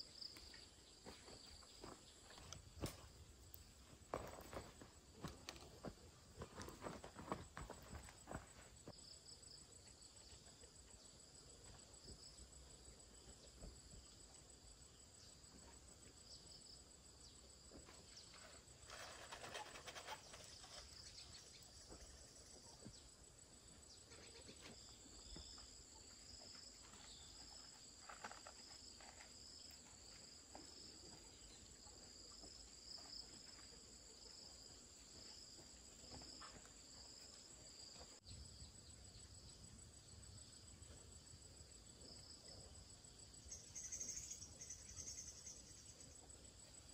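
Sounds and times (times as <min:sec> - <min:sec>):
insects chirring: 0:00.0 - 0:10.1, 0:11.0 - 0:46.9.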